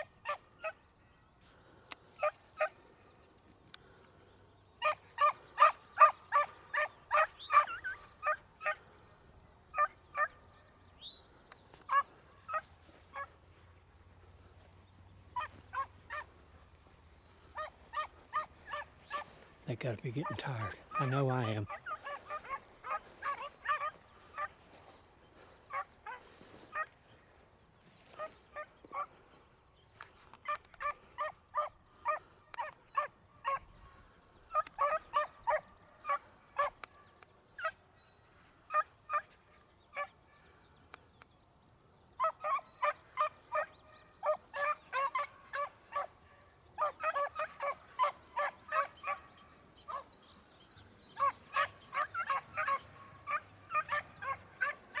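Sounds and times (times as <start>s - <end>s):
beagles baying: 0.0s - 39.4s, 42.2s - 50.3s, 51.1s - 55.0s.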